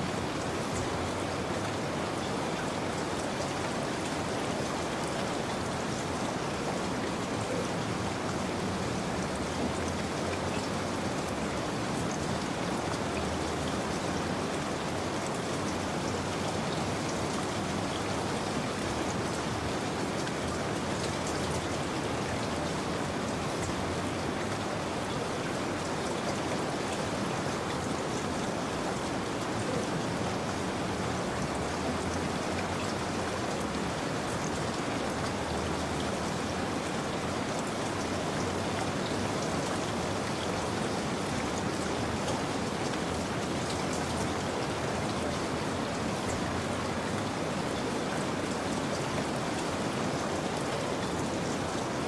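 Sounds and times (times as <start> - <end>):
rain pattering on a surface: 0.0 - 52.0.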